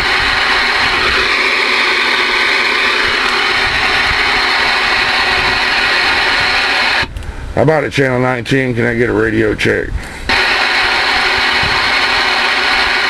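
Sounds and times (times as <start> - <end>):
radio static hiss: 0.0 - 9.6, 10.3 - 13.0.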